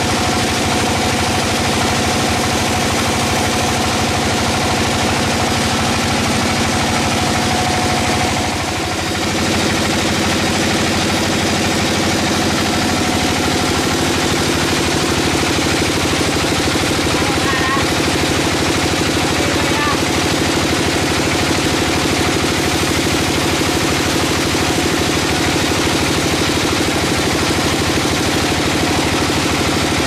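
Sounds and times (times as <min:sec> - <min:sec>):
sawmill engine running: 0:00.0 - 0:30.0.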